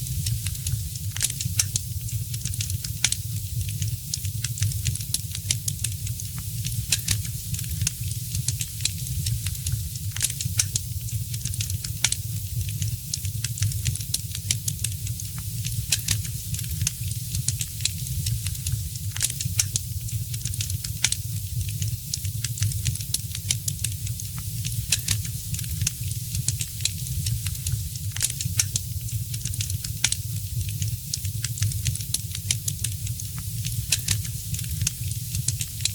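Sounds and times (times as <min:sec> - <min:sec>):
fire hiss and low rumble: 0:00.0 - 0:35.9
wood fire crackling: 0:00.0 - 0:35.9.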